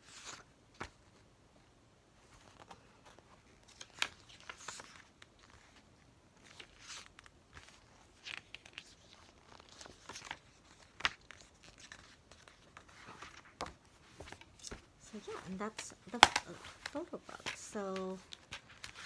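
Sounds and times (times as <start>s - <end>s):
book pages turning: 0.0s - 1.2s, 2.2s - 19.0s.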